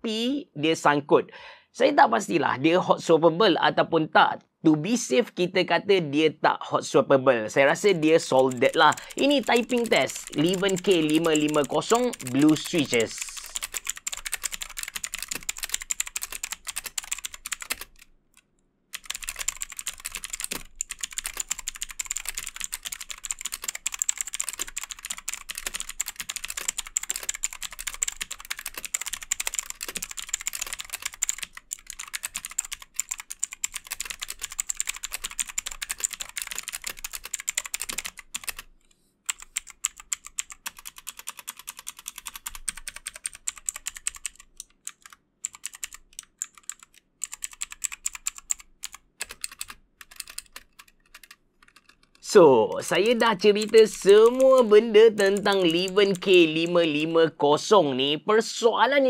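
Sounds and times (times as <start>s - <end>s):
mechanical keyboard clicking: 7.8s - 18.1s, 18.9s - 38.7s, 39.3s - 56.8s.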